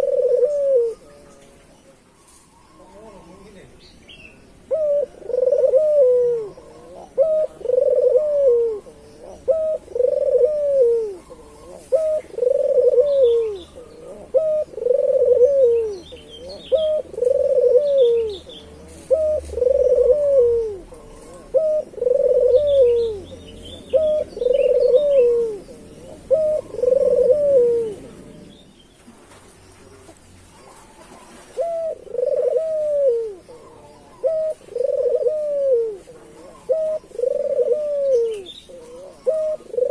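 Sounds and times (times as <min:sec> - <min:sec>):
dove cooing: 0:00.0 - 0:03.7, 0:04.6 - 0:28.7, 0:29.8 - 0:39.9
small birds chirping faintly: 0:00.0 - 0:39.9.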